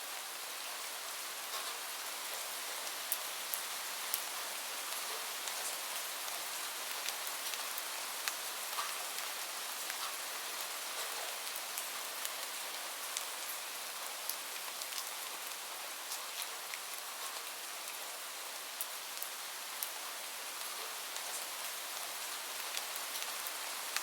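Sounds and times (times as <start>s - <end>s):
gentle rain hiss: 0.0s - 24.0s.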